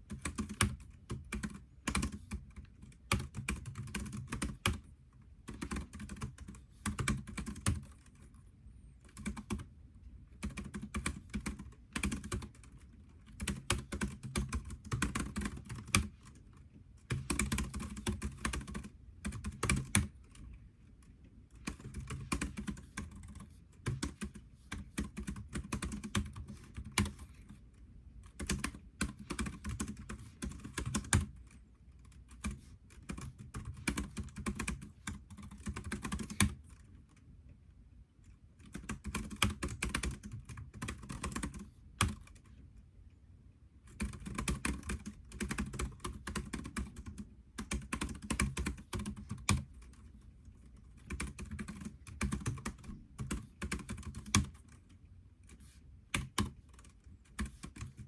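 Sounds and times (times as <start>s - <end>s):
computer keyboard typing: 0.0s - 8.3s, 9.0s - 9.7s, 10.3s - 27.6s, 28.2s - 36.9s, 38.6s - 42.5s, 43.9s - 58.0s.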